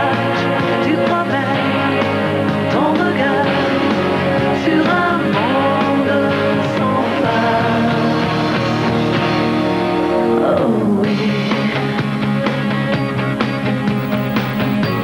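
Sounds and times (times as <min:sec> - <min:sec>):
rock band playing: 0:00.0 - 0:10.4, 0:11.1 - 0:15.0.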